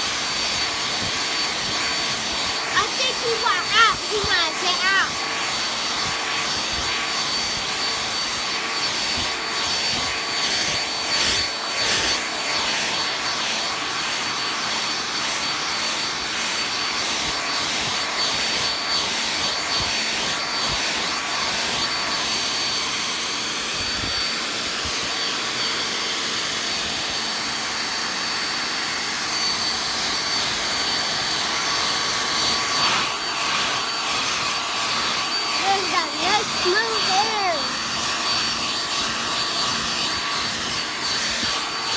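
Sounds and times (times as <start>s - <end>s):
electric blower whine: 0.0s - 41.9s.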